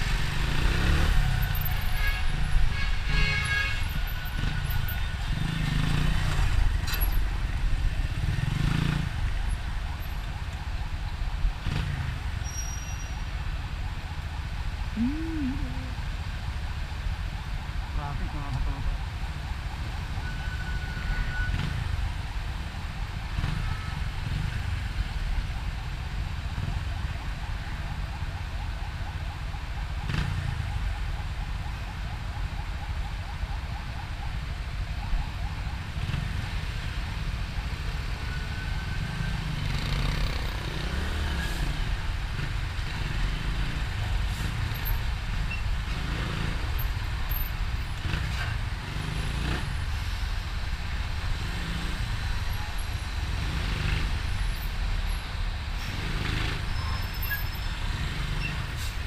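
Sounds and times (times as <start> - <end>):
passing traffic: 0.0 - 59.0.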